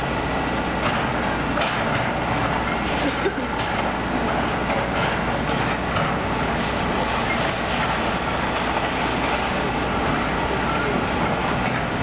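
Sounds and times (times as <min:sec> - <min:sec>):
excavator diesel engine rumble: 0:00.0 - 0:12.0.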